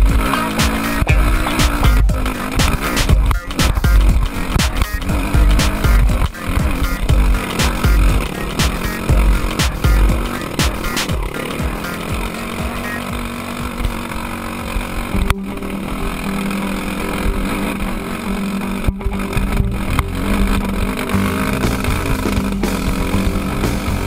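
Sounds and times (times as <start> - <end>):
dirt bike engine running hard: 0.0 - 24.0.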